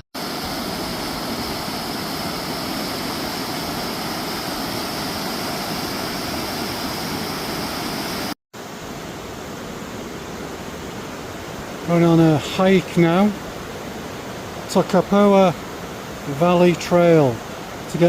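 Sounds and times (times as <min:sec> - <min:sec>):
river water rushing: 0:00.2 - 0:18.0.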